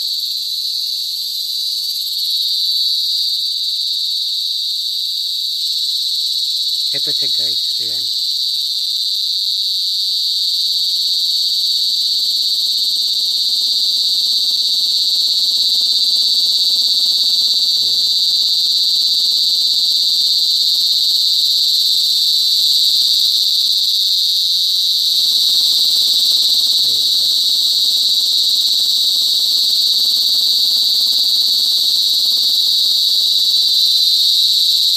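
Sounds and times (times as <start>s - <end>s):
cicada buzzing: 0.0s - 34.9s.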